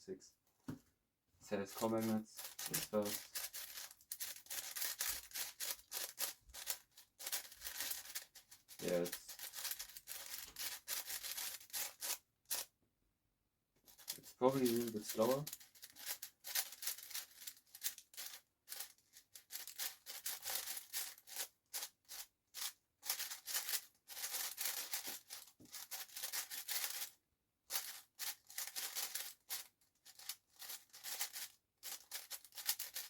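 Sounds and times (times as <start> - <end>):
plastic puzzle cube turning: 1.8 - 12.7, 13.9 - 33.0.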